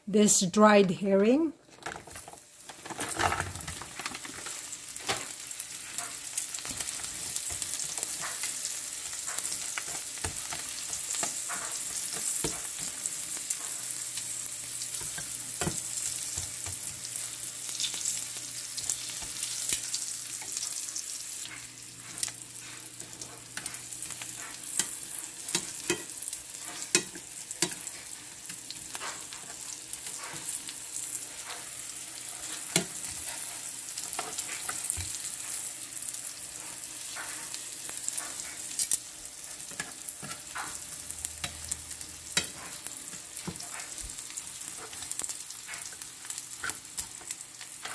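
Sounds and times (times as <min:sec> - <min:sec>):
fish sizzling in hot oil: 0:02.1 - 0:47.9.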